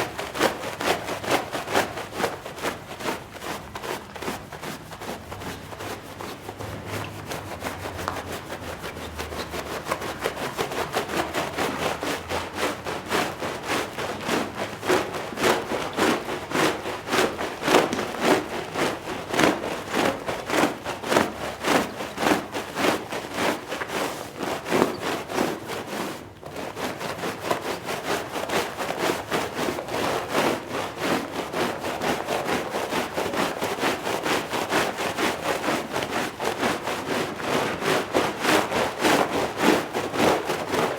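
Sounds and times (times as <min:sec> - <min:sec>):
stiff brush scrubbing wet rug: 0:00.0 - 0:40.9.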